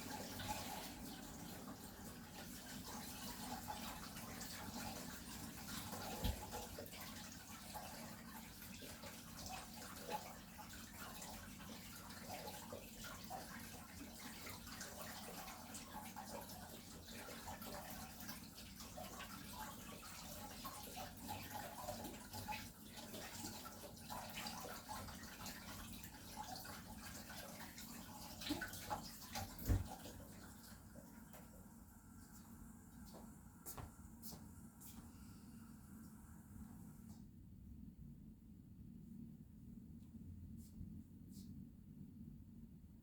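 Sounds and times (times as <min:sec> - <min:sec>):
running water: 0:00.0 - 0:35.0.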